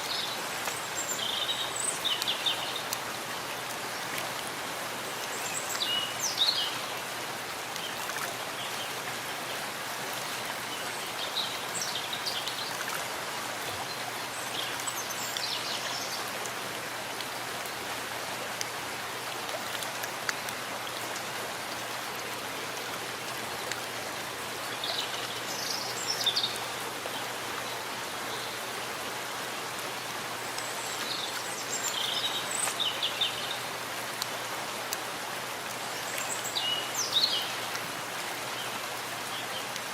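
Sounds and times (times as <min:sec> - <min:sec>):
rain on leaves and ground: 0:00.0 - 0:39.9.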